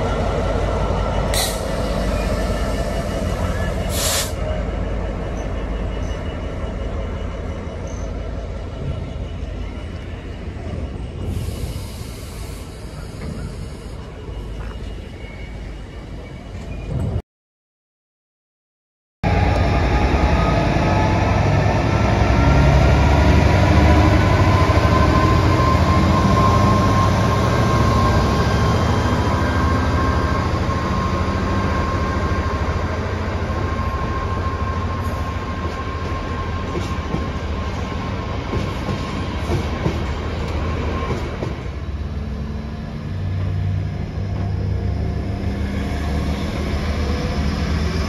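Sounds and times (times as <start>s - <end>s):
train wheels rumbling on rail: 0.0s - 17.2s, 19.3s - 48.0s.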